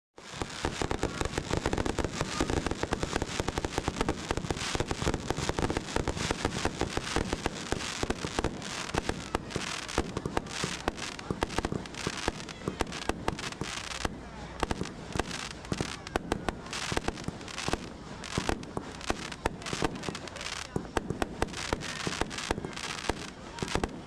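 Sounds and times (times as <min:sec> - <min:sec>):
fireworks popping and banging: 0:00.2 - 0:24.0.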